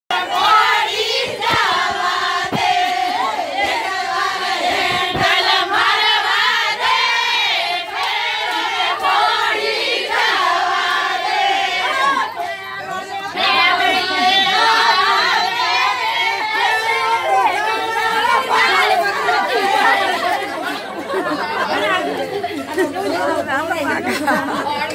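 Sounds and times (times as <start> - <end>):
women singing in chorus: 0.1 - 21.2.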